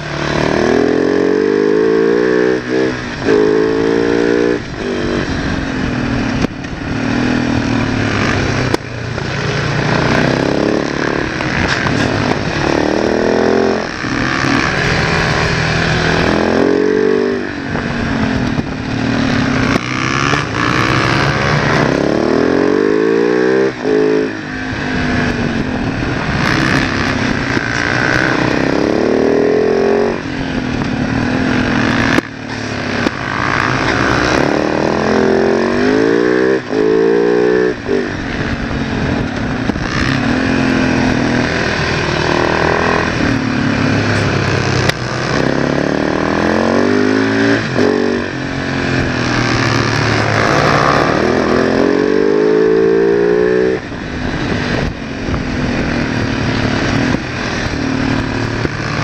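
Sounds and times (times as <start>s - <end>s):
motorcycle engine accelerating: 0.0s - 59.0s
wind rush: 2.9s - 32.1s, 37.7s - 59.0s.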